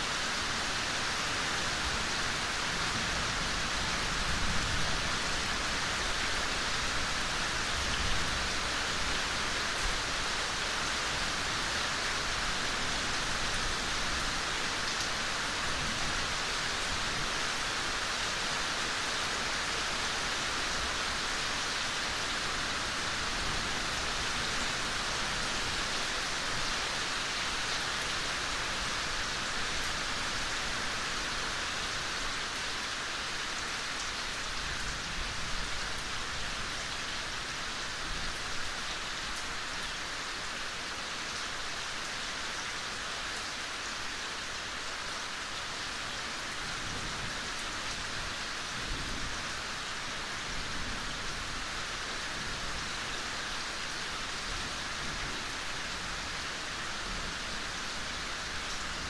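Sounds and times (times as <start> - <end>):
soft rain falling: 0.0 - 59.0.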